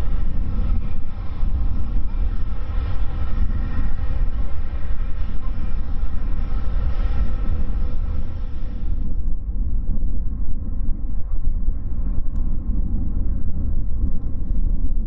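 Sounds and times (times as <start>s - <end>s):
bright many-toned whine: 0.0s - 15.0s
faint jet engine whine: 0.0s - 15.0s
jet engines rumbling: 0.0s - 15.0s.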